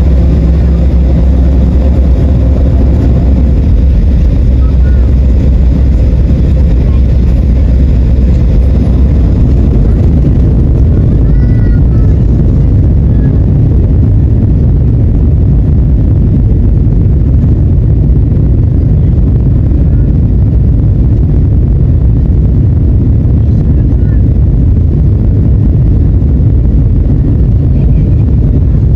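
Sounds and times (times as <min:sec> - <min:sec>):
jet engine cabin rumble: 0:00.0 - 0:28.9.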